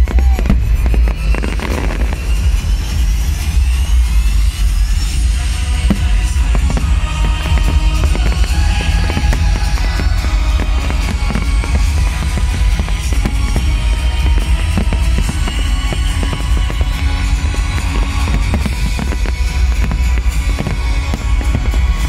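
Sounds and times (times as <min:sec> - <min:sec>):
fireworks banging and crackling: 0:00.0 - 0:22.0
show music with heavy bass: 0:00.0 - 0:22.0.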